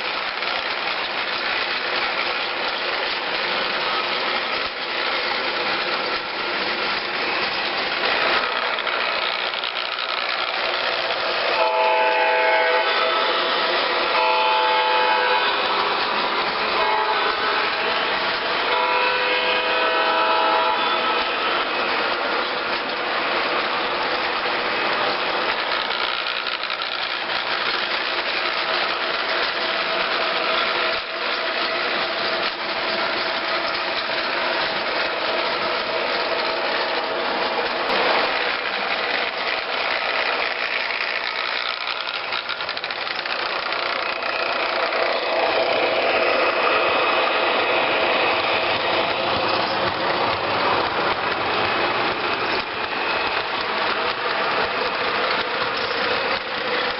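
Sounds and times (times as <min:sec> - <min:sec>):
diesel locomotive engine: 0:00.0 - 0:56.9.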